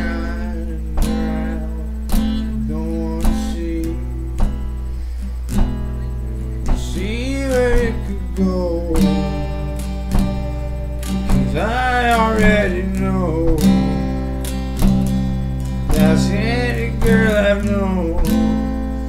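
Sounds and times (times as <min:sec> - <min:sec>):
person singing: 0:00.0 - 0:04.6, 0:06.7 - 0:14.4, 0:15.9 - 0:19.0
acoustic guitar strumming: 0:00.0 - 0:19.0.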